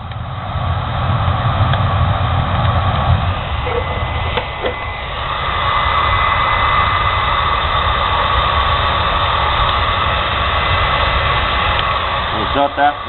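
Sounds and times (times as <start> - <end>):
hair dryer whining and blowing air: 1.6 - 13.0.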